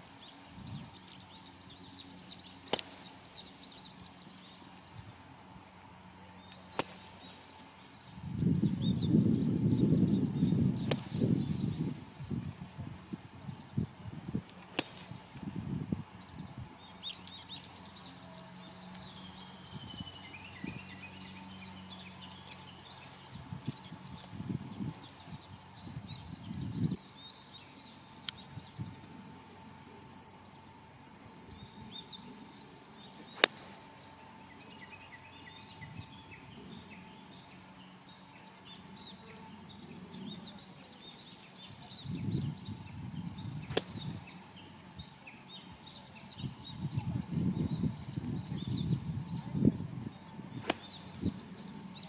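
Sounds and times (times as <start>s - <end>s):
small birds chirping: 0.0s - 52.0s
steady high hiss: 0.0s - 52.0s.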